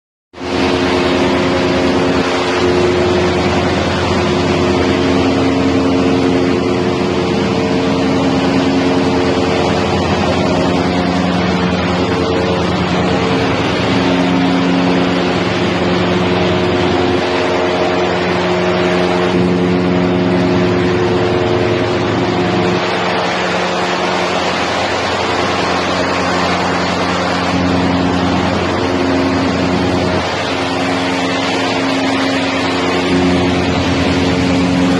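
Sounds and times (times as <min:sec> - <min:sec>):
loud machine noise: 0:00.4 - 0:34.9
machine humming tones: 0:00.4 - 0:34.9.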